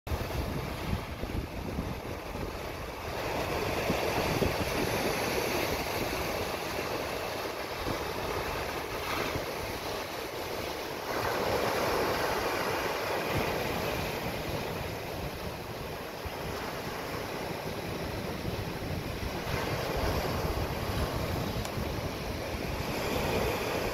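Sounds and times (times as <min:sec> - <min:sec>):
surf breaking over rocks: 0:00.1 - 0:23.9
wind buffeting microphone: 0:00.1 - 0:23.9.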